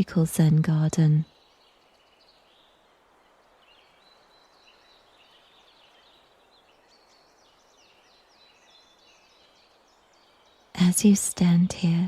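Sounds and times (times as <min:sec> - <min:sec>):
birds chirping: 0:00.0 - 0:12.0
outdoor ambient hiss: 0:00.0 - 0:12.0.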